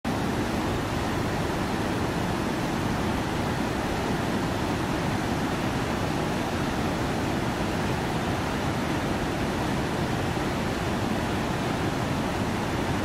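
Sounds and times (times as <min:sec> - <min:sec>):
river rapids rushing over rocks: 0:00.1 - 0:13.0.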